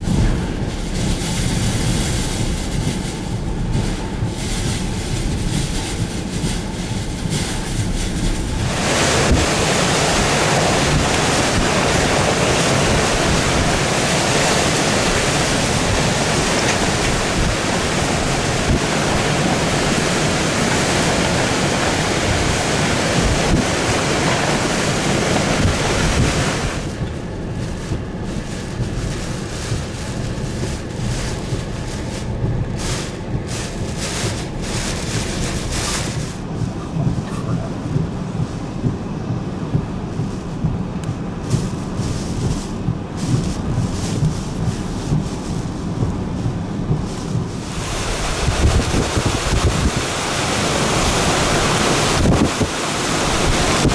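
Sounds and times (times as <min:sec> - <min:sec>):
strong wind buffeting microphone: 0:00.0 - 0:53.9.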